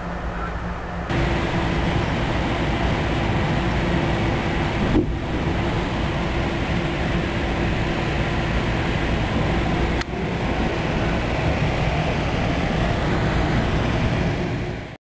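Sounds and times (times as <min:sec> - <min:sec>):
train wheels rolling on rails: 0:00.0 - 0:14.9.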